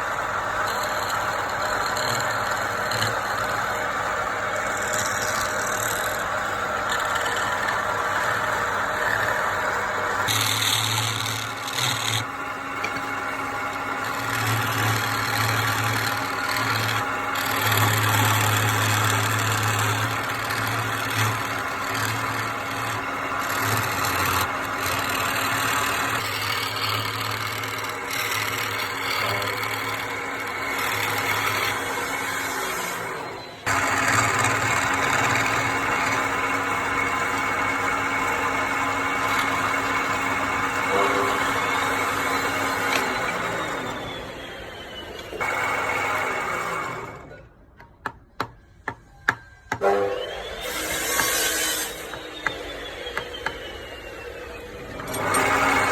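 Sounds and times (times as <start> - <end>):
power tool cutting wood: 0.0 - 47.4, 49.7 - 55.9.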